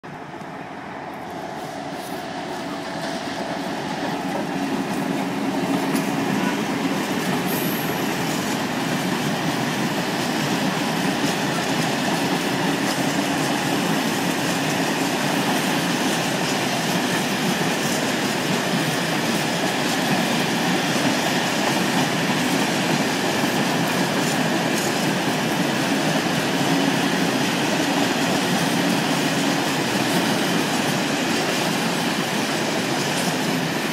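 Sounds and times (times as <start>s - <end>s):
freight train rolling past: 0.0s - 33.9s.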